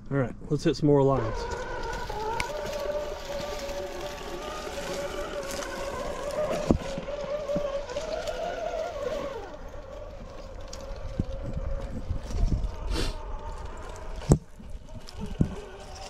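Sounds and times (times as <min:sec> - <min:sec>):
rc truck motor whining: 0:01.0 - 0:16.0.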